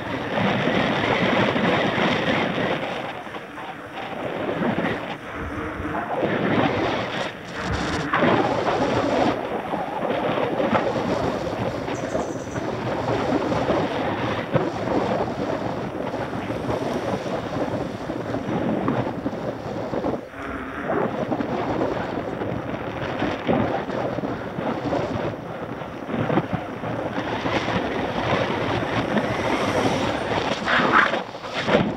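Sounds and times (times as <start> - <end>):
wind buffeting the microphone: 0.0 - 31.9.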